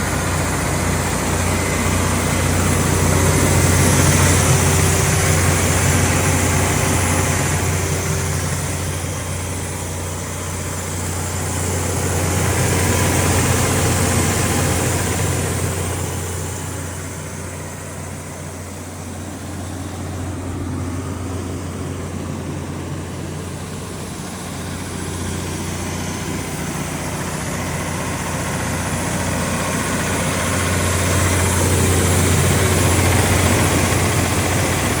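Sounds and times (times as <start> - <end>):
diesel generator humming: 0.0 - 35.0.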